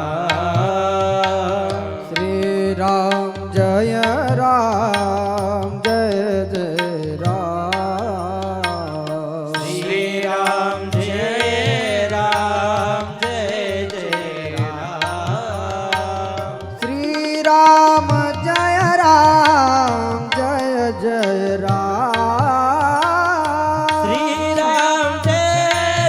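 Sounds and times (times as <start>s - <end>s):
person singing a devotional song: 0.0s - 26.0s.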